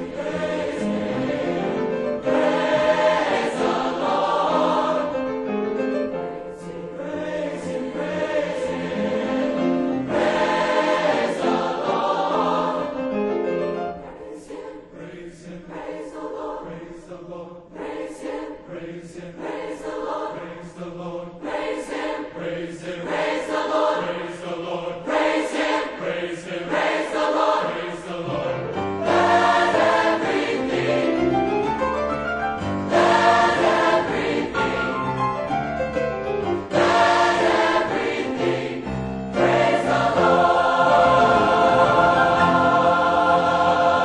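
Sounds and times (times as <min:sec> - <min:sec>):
mixed choir singing: 0:00.0 - 0:31.8, 0:32.6 - 0:35.6, 0:36.6 - 0:44.0.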